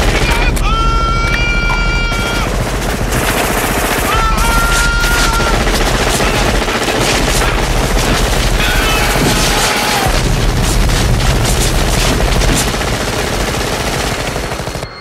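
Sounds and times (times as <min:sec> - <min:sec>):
automatic gunfire: 0:02.0 - 0:14.8.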